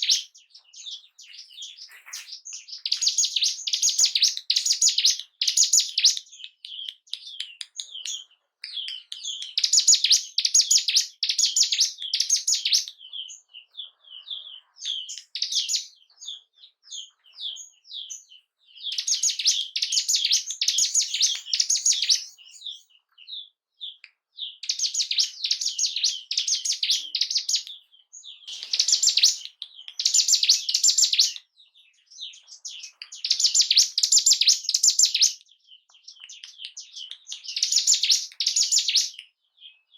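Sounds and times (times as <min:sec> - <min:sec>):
songbird trilling: 0:00.0 - 0:39.8
bird chirps: 0:00.0 - 0:39.9.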